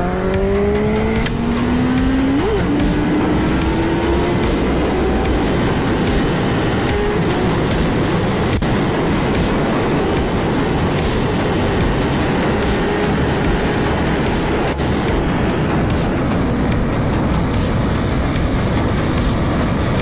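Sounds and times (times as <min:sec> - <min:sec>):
motorcycle engine accelerating: 0:00.0 - 0:20.0
steady rushing noise: 0:00.0 - 0:20.0.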